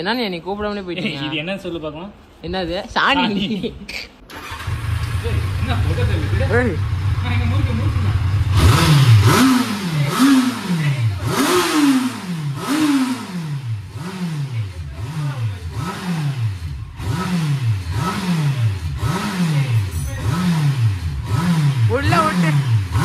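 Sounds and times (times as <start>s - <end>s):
motorcycle engine revving: 4.3s - 23.0s.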